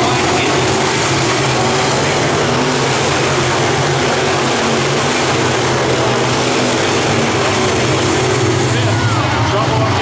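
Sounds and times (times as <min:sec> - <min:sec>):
race car engines roaring: 0:00.0 - 0:10.0.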